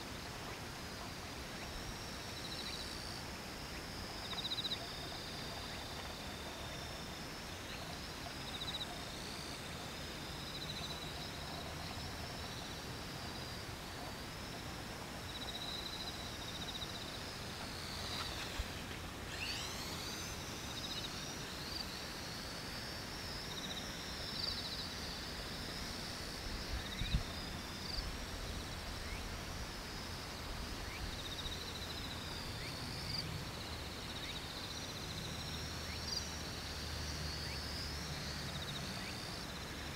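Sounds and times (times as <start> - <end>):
drone propellers whining: 0.1 - 39.9.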